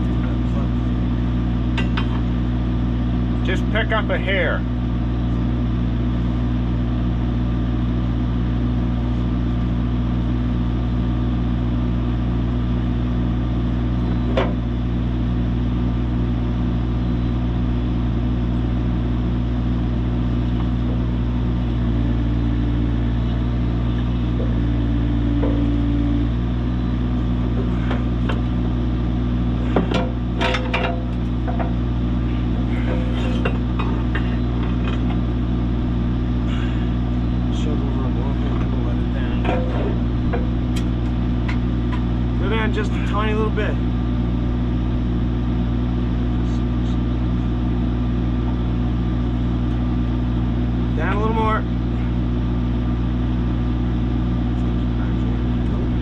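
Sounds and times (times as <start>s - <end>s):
heavy machine engine idling: 0.0s - 56.0s.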